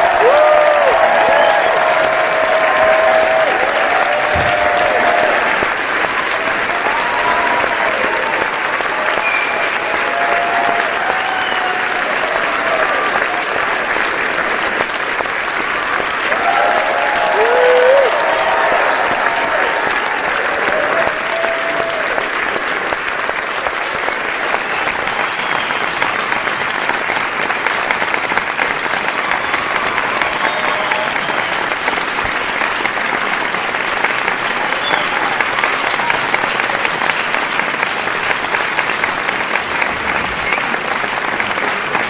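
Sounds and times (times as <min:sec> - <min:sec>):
audience applauding: 0:00.0 - 0:42.0.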